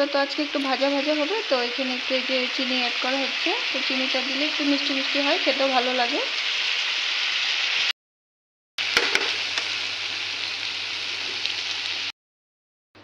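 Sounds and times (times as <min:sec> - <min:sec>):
vegetables sizzling in a pan: 0:00.0 - 0:07.9, 0:08.8 - 0:12.1.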